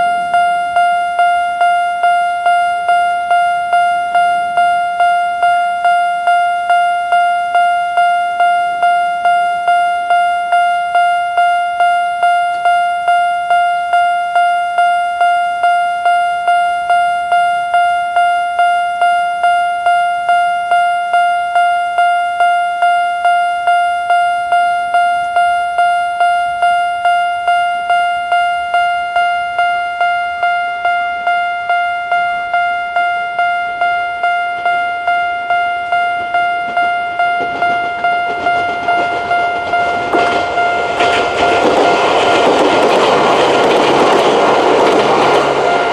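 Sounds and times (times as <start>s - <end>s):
level-crossing alarm bell: 0.0s - 45.9s.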